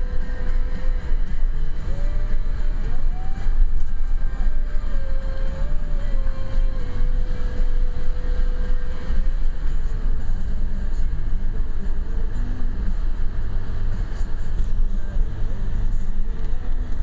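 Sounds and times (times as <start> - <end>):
car driving rumble: 0.0 - 17.0
road and wind noise: 0.0 - 17.0.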